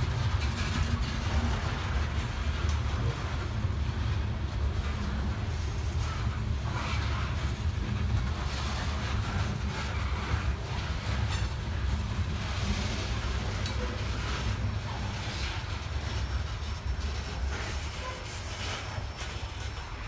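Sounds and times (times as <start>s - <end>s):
freight train wheels clattering on rails: 0.0s - 20.0s.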